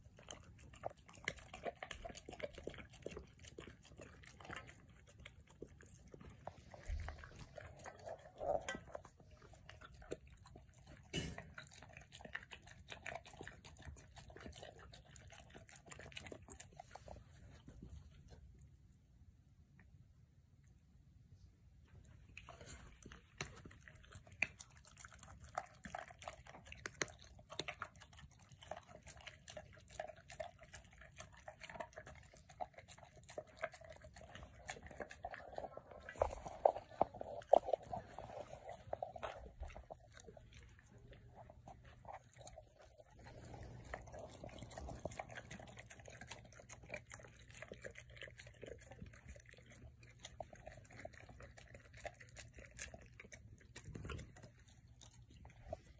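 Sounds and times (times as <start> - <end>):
animals chewing wet food: 0.0 - 20.0, 21.9 - 55.9.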